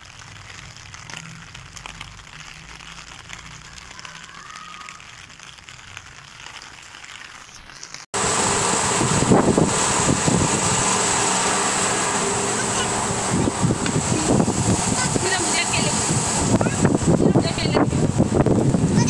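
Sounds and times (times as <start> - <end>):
rain on concrete rooftop: 0.0 - 19.0.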